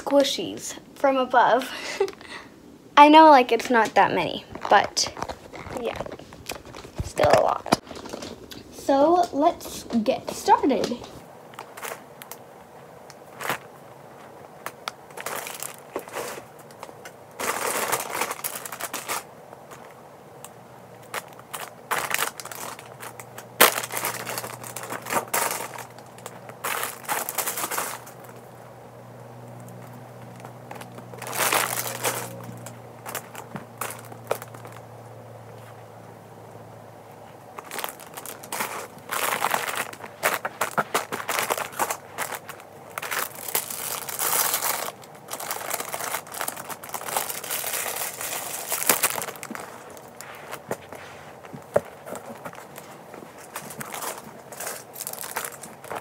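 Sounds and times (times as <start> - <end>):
plastic wrappers crinkling: 3.7 - 12.4, 13.0 - 28.7, 29.5 - 35.8, 37.2 - 56.0.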